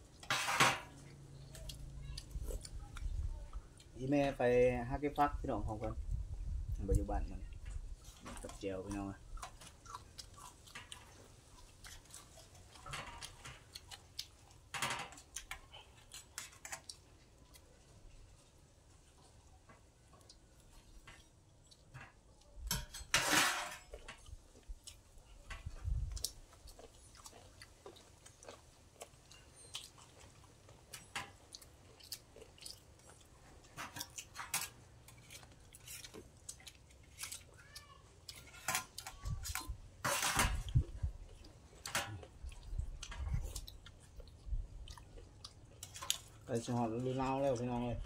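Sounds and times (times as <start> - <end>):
wet chewing and lip smacks: 1.1 - 4.0, 5.8 - 22.6, 23.9 - 39.8, 40.6 - 48.0.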